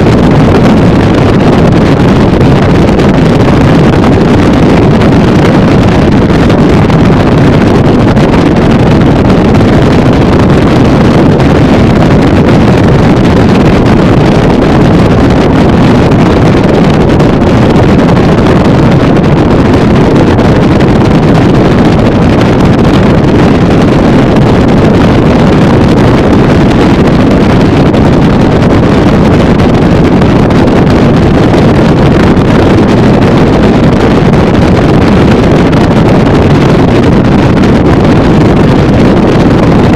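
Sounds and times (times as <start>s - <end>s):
motorboat engine: 0.0s - 39.9s
wind on microphone: 0.0s - 39.9s.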